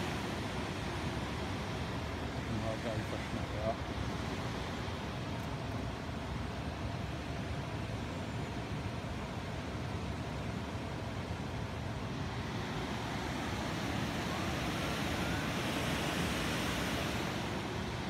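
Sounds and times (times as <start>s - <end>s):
river water over rapids: 0.0s - 18.0s.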